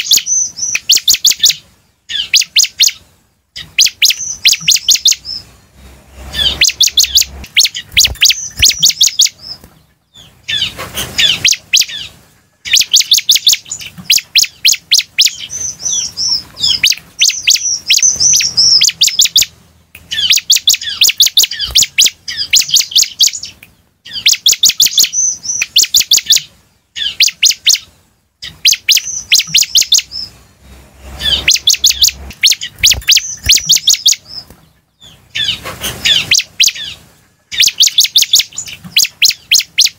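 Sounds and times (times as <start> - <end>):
bird chirping high notes: 3.6 - 39.9.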